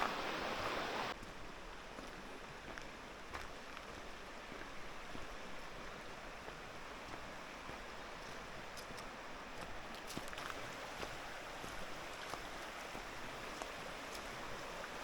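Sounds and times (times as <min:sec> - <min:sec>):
mountain stream rushing: 0:00.0 - 0:01.2, 0:02.4 - 0:15.0.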